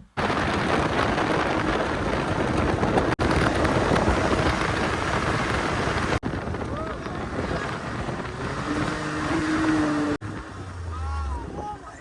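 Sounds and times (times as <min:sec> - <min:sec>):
vehicle engine running: 0:00.0 - 0:12.0
wind noise on microphone: 0:00.0 - 0:12.0.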